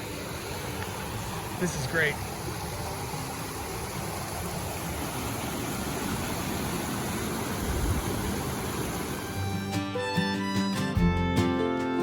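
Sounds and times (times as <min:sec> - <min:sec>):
river and waterfalls rushing: 0:00.0 - 0:09.7.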